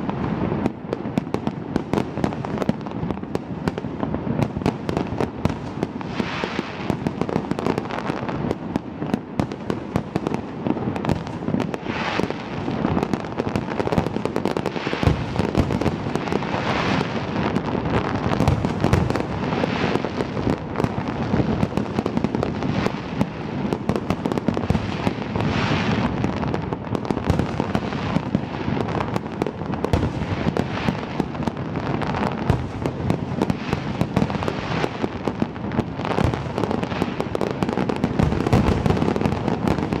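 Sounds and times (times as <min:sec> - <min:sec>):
fireworks bursting: 0:00.0 - 0:40.0
fireworks crackling: 0:00.0 - 0:40.0.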